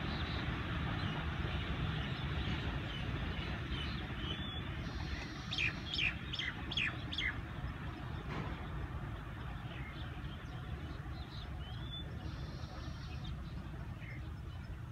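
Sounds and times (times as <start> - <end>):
low steady rumble: 0.0 - 14.9.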